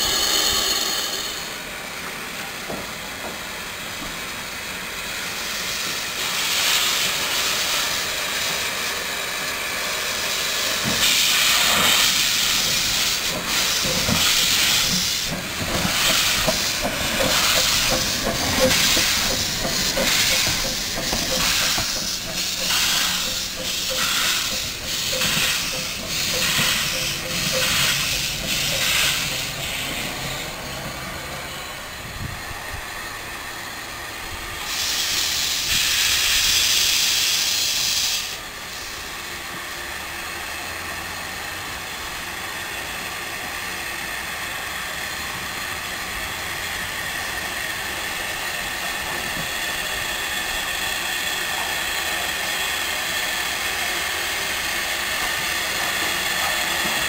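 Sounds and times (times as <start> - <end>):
loud hiss of steam: 0.0 - 57.0
steam locomotive exhaust chuffing: 0.0 - 57.0.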